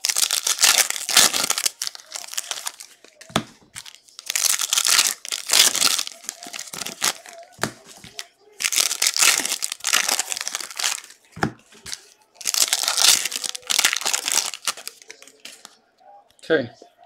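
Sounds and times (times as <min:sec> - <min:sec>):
foil wrappers crinkling and tearing: 0:00.0 - 0:15.7.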